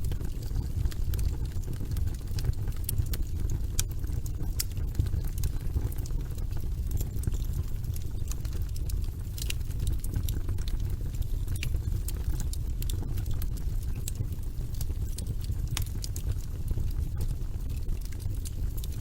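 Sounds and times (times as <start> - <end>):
fire crackles and pops: 0.0 - 19.0
low rumble of flames: 0.0 - 19.0.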